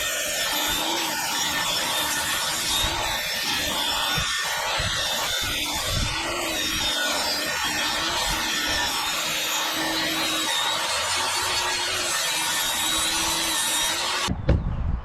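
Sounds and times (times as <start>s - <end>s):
saw cutting wooden board: 0.0s - 14.3s.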